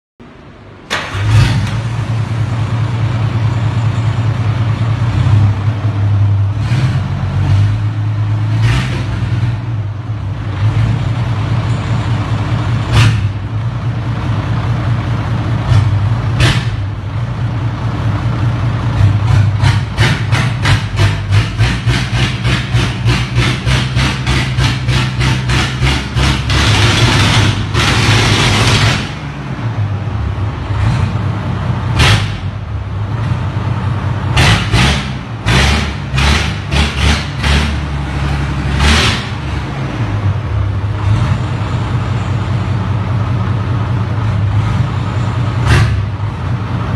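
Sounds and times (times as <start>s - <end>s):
diesel engine running: 0.2s - 46.9s.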